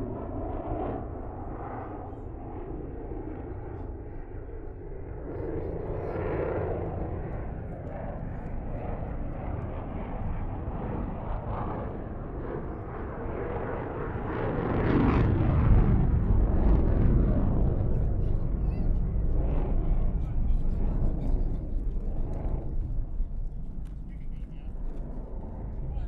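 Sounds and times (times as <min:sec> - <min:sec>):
distant jet engine roar: 0:00.0 - 0:26.0.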